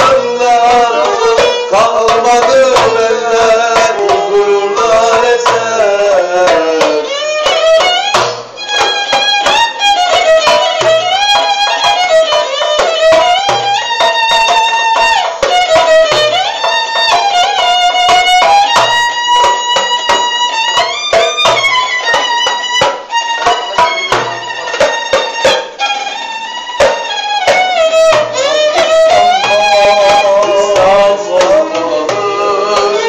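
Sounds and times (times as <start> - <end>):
darbuka drum strokes: 0.0 - 33.0
violin melody with sliding notes: 0.0 - 33.0.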